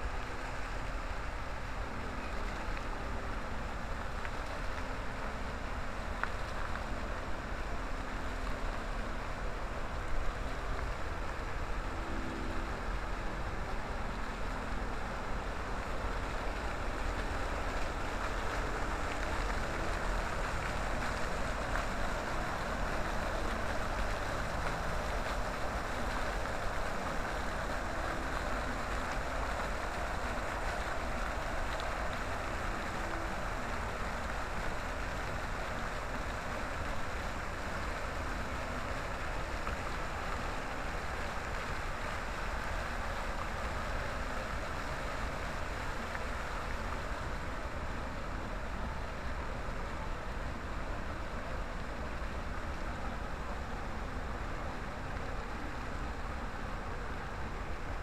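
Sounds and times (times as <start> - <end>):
fountain jets splashing into water: 0.0 - 58.0.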